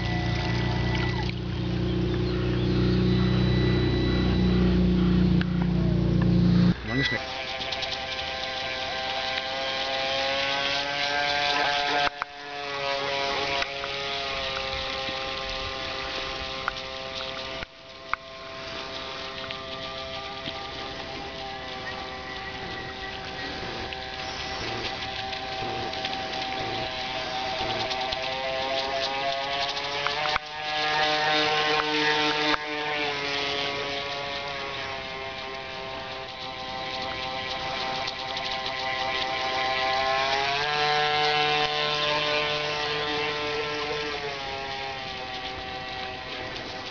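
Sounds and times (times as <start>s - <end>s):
model boat motor whine: 0.0s - 46.9s.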